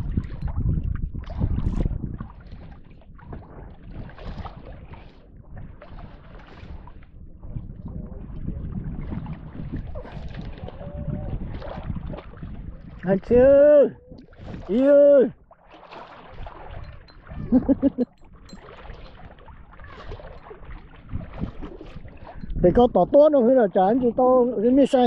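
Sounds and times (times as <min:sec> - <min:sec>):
wind buffeting microphone: 0:00.0 - 0:15.6, 0:16.2 - 0:25.0.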